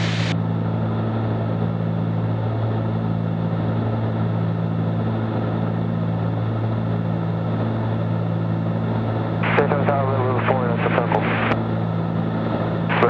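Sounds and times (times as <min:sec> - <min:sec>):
aircraft engines droning in cabin: 0:00.0 - 0:13.0.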